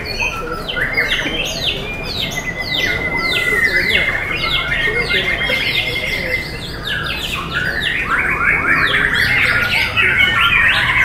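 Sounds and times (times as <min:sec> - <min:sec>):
bird whistling song: 0:00.0 - 0:11.0
low murmur of voices: 0:00.0 - 0:11.0.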